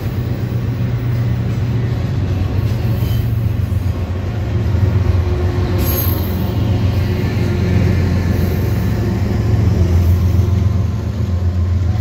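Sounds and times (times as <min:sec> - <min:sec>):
diesel locomotive engine drone: 0:00.0 - 0:12.0
train wheels rumbling on rails: 0:00.0 - 0:12.0.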